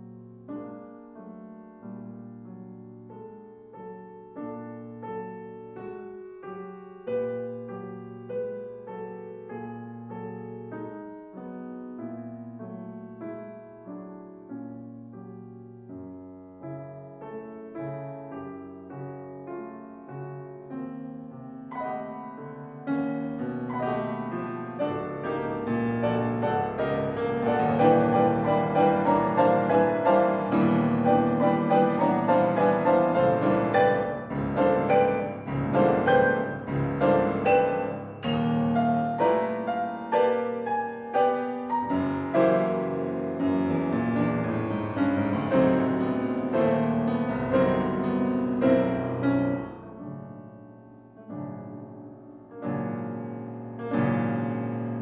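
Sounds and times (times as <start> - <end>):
solo piano playing: 0.0 - 55.0.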